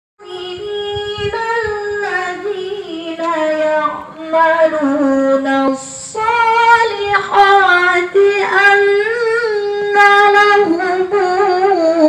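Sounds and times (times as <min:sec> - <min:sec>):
woman reciting melodically: 0:00.2 - 0:12.0.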